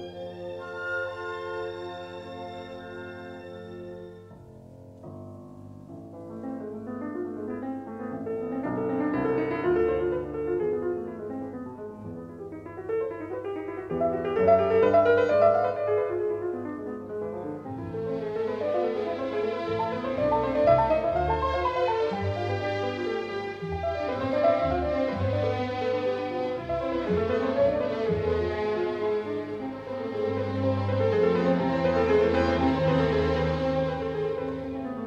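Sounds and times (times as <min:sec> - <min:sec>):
piano playing runs and chords: 0:00.0 - 0:35.0.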